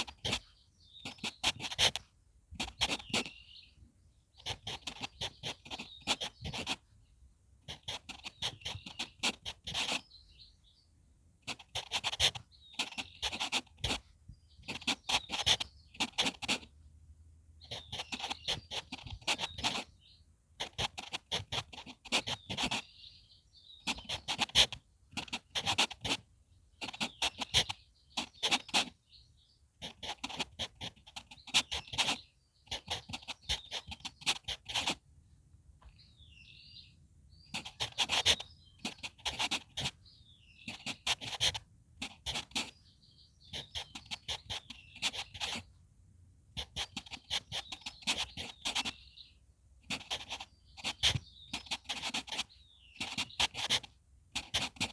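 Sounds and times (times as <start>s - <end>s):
pencil scratching on paper: 0.0s - 3.4s, 4.4s - 6.9s, 7.6s - 10.2s, 11.4s - 16.8s, 17.6s - 20.0s, 20.6s - 23.0s, 23.8s - 29.0s, 29.8s - 35.0s, 37.5s - 42.8s, 43.4s - 45.7s, 46.6s - 49.2s, 49.9s - 54.9s
faint birdsong: 0.0s - 54.9s.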